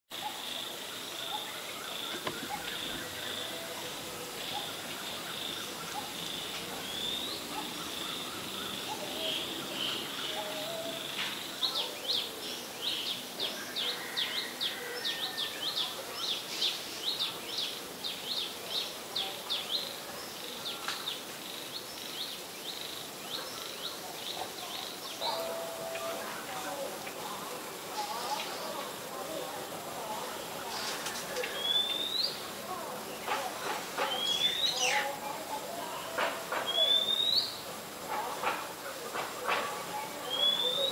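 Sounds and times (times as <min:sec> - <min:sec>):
high insect drone: 0:00.2 - 0:40.9.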